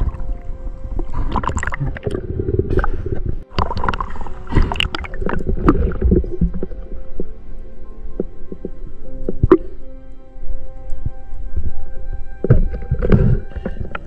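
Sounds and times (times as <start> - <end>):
water sloshing and gurgling: 0.0 - 14.0.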